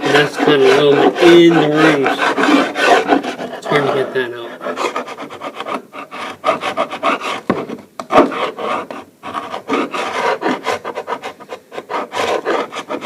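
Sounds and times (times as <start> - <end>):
paint scraper rasping on wood: 0.0 - 13.0.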